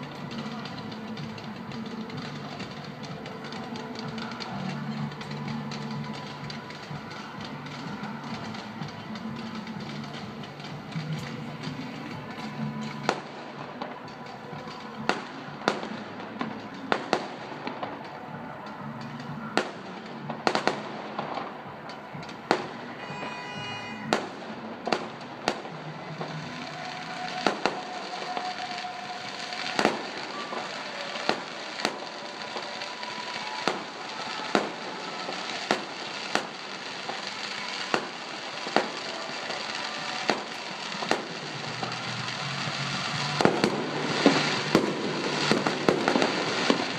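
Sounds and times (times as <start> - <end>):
fireworks bangs: 0.0 - 46.9
steady background din: 0.0 - 46.9.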